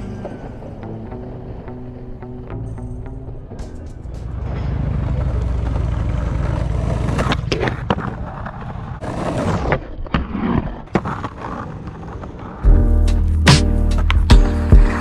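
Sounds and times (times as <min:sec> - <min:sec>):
skateboard clacking: 0:00.0 - 0:04.4, 0:05.0 - 0:12.8, 0:13.8 - 0:15.0
skateboard scraping: 0:00.0 - 0:15.0
skateboard wheels rolling: 0:00.0 - 0:15.0.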